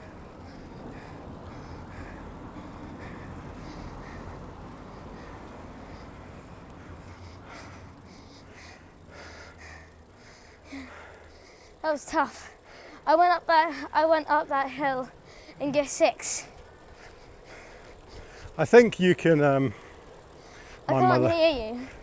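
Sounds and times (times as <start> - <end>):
cyclist breathing hard: 0.0 - 22.0
wind and road rumble: 0.0 - 22.0.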